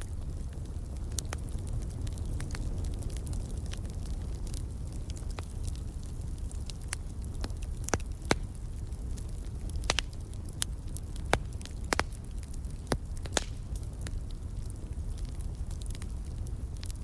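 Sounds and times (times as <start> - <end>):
low rumble of burning fire: 0.0 - 17.0
wood fire crackling: 0.0 - 17.0.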